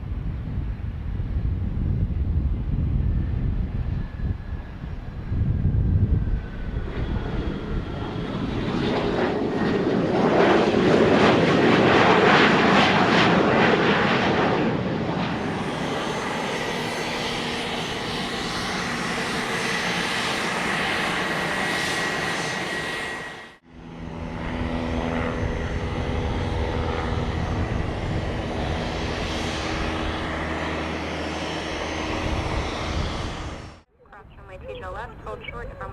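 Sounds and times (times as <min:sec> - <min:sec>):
aircraft engine with high whine: 0:00.0 - 0:35.9
second aircraft engine: 0:00.0 - 0:35.9.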